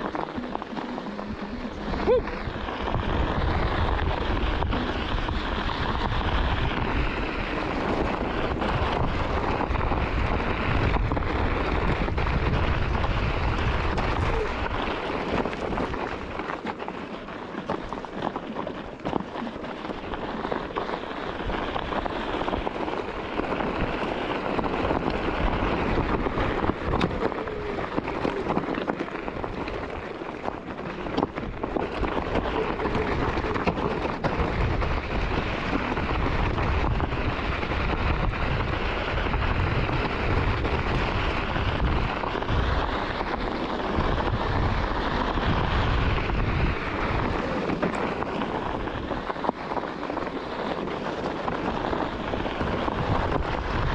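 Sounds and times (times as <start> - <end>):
tyre crunching on gravel: 0.0 - 53.9
wind rumble on microphone: 0.0 - 53.9.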